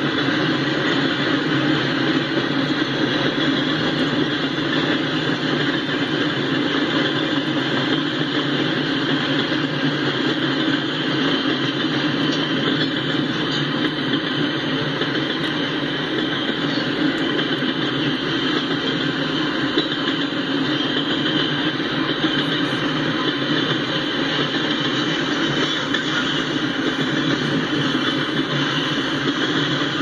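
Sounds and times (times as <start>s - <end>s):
freight train wheels on rails: 0.0s - 30.0s.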